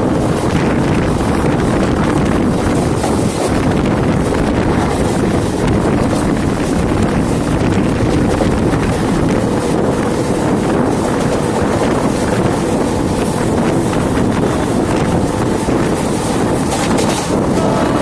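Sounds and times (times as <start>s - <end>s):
train rumbling along tracks: 0.0s - 18.0s
wind buffeting microphone: 0.0s - 18.0s.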